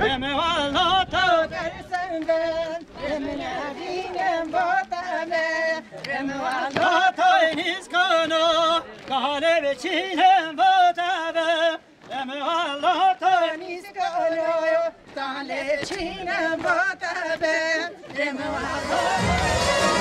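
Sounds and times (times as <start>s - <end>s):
folk dance music: 0.0s - 20.0s.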